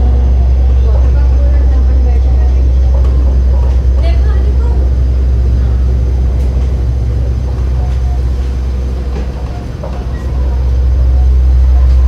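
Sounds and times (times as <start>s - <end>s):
monorail cabin rumble: 0.0s - 12.0s.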